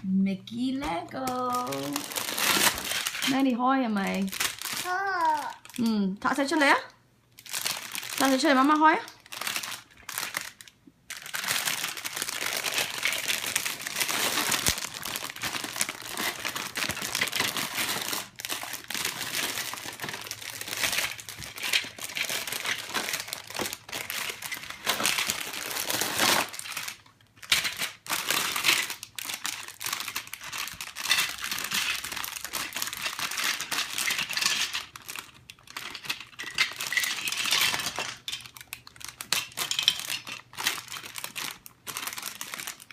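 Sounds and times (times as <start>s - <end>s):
plastic packaging crinkling: 0.6s - 6.7s, 7.3s - 42.9s.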